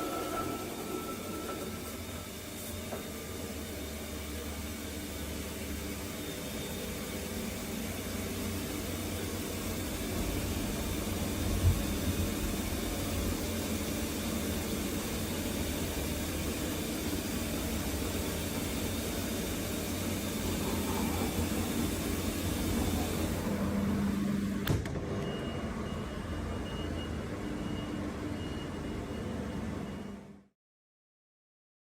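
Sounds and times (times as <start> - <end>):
machine humming and hissing: 0.0 - 29.8.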